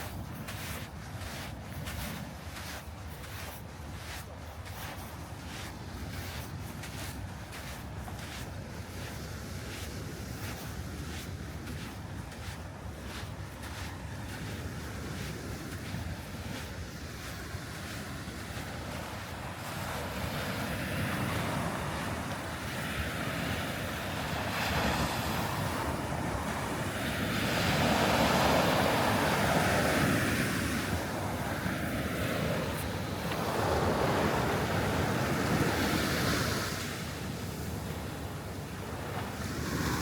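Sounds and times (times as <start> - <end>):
sea waves breaking on beach: 0.0 - 40.0.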